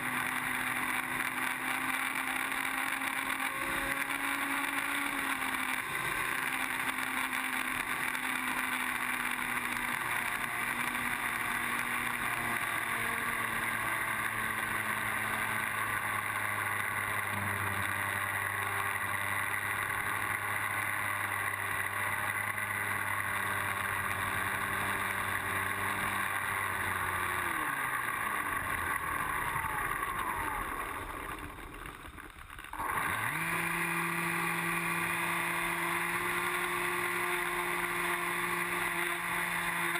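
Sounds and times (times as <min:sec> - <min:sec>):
electric motor humming: 0:00.0 - 0:39.9.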